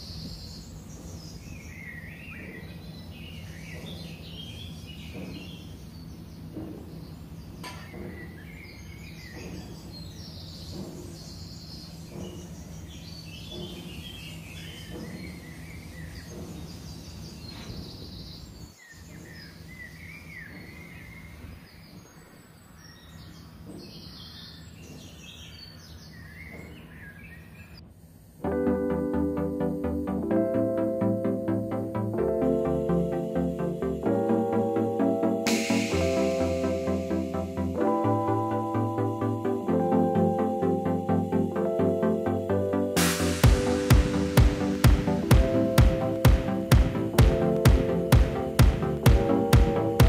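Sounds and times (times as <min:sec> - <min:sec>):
birds chirping: 0:00.0 - 0:50.0
steady low hum: 0:00.0 - 0:50.0.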